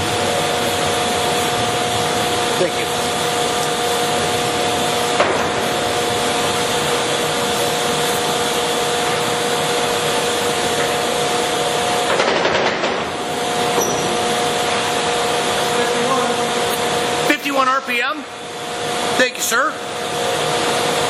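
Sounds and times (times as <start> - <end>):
lathe running with mechanical hum: 0.0 - 21.0.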